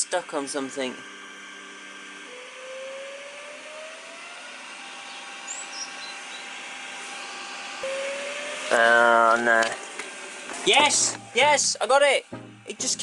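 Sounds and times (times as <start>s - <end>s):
motor skipping: 0.0s - 13.0s
stepper motor whining: 0.0s - 13.0s.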